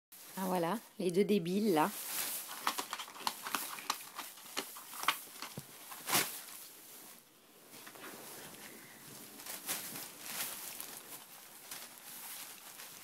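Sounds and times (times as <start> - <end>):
plastic bag crinkling: 1.5 - 7.2, 7.8 - 13.0.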